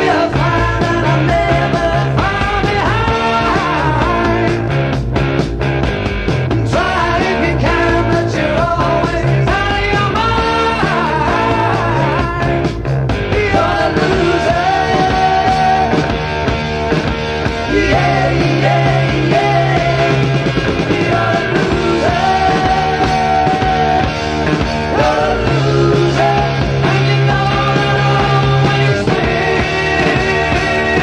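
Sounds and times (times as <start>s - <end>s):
blues-rock band playing: 0.0s - 31.0s.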